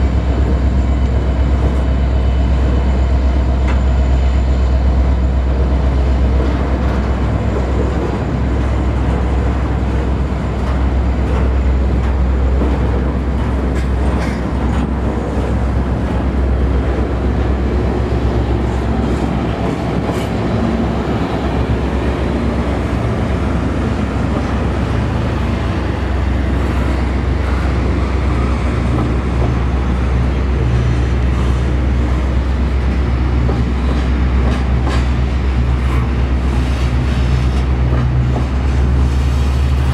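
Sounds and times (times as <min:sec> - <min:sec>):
diesel locomotive engine: 0:00.0 - 0:39.9
wheels clacking over rail joints: 0:06.3 - 0:39.9.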